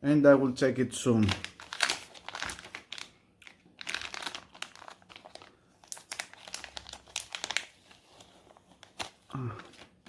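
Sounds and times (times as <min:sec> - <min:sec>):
plastic packaging crinkling: 0:01.2 - 0:10.0.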